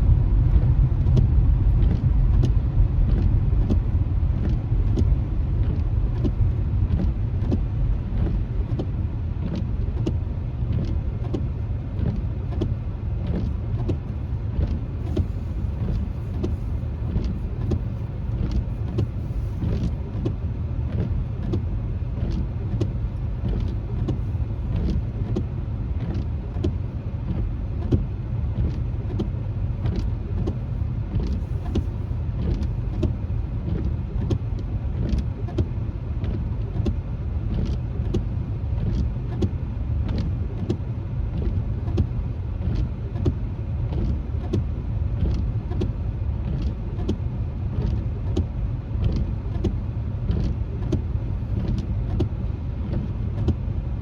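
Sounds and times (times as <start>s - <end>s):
car cabin road rumble: 0.0s - 54.0s
raindrops hitting windshield: 0.0s - 54.0s.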